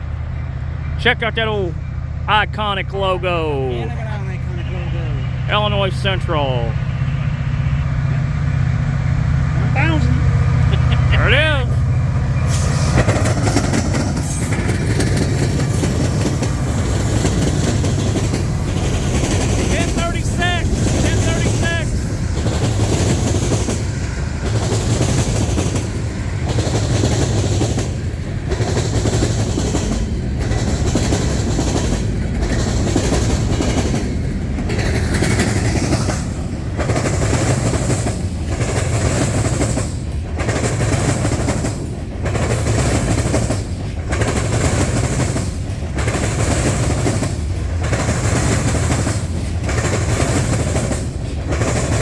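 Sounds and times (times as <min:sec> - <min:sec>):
train wheels clattering: 0:09.2 - 0:52.0.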